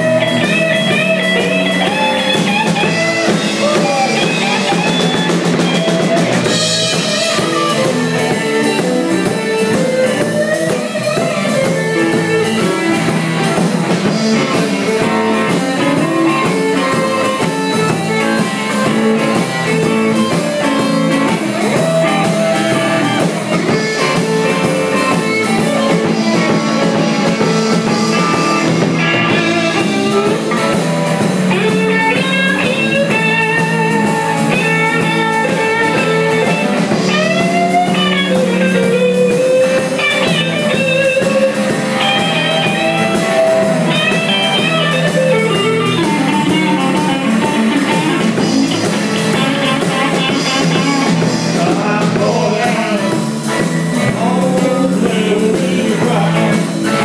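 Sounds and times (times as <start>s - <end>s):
bass guitar: 0.0s - 57.0s
drum kit: 0.0s - 57.0s
electric guitar lines: 0.0s - 57.0s.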